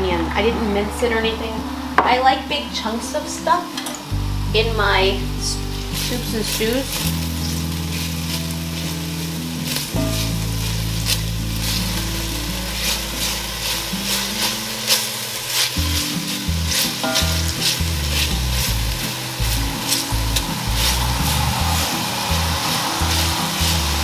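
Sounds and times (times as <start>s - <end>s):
garlic and onion sizzling in oil: 2.8s - 24.0s.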